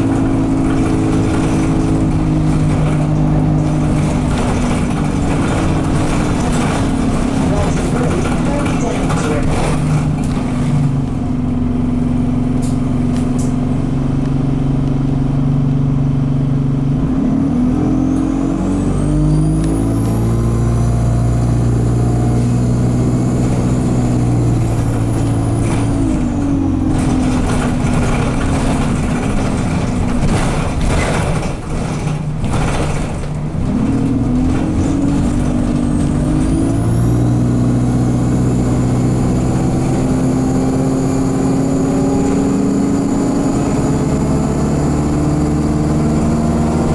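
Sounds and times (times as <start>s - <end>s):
bus engine pulling away: 0.0s - 46.9s.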